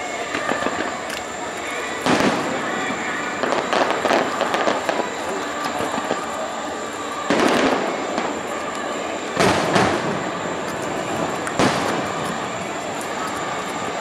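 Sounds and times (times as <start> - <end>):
fireworks bursting: 0.0 - 14.0
steady background noise: 0.0 - 14.0.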